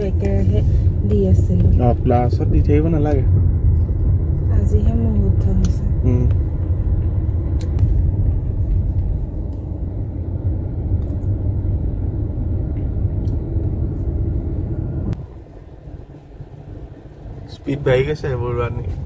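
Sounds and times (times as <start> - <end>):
car engine and tyres rumble: 0.0 - 19.0
quiet cabin hum: 0.0 - 19.0.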